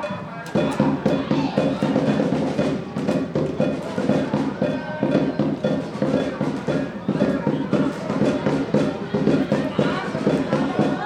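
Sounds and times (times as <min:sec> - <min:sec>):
band playing with drum beat: 0:00.0 - 0:11.0.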